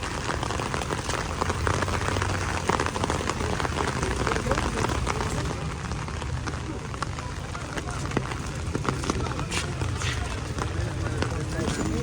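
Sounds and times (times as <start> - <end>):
heavy rain on a street: 0.0 - 12.0.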